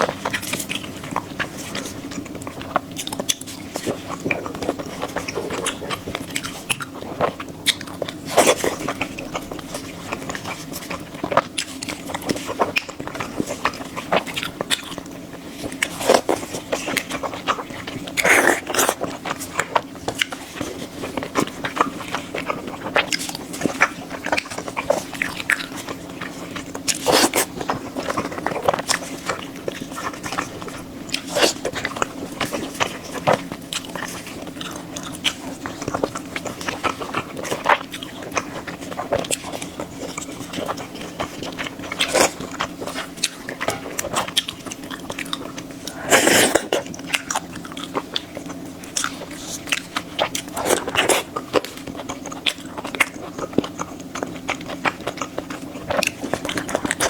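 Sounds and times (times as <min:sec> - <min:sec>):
crunchy biting and chewing: 0:00.0 - 0:57.0.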